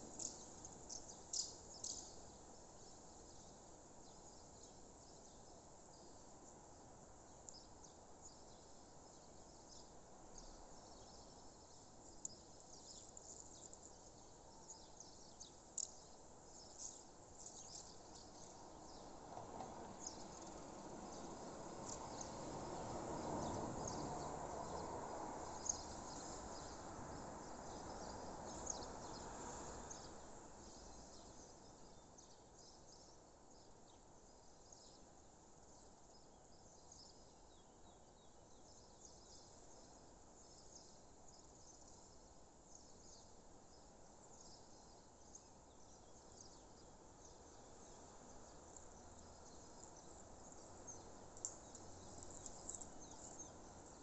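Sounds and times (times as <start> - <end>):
insects: 0.0 - 54.0.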